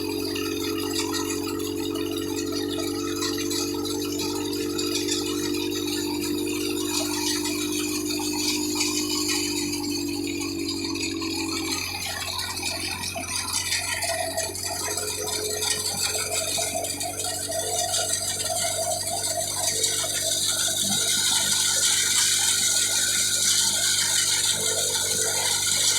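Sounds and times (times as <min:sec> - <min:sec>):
dense continuous rattle: 0:00.0 - 0:25.9
threshing machine running: 0:00.0 - 0:25.9.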